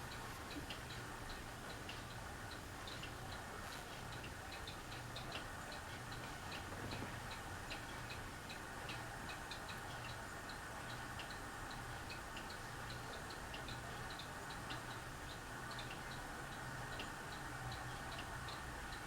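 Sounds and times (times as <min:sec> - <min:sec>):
ceiling fan motor hum: 0:00.0 - 0:19.0
light irregular ticking: 0:00.0 - 0:19.0.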